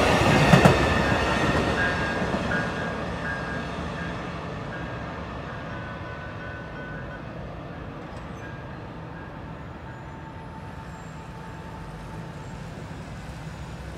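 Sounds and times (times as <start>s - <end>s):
train rumbling: 0.0s - 13.9s.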